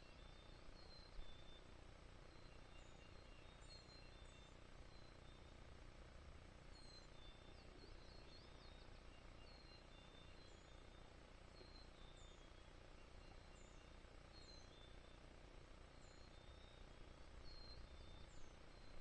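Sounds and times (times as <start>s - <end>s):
small bird chirps: 0.0s - 5.6s, 6.7s - 15.2s, 15.8s - 19.0s
faint low rumble: 0.0s - 19.0s.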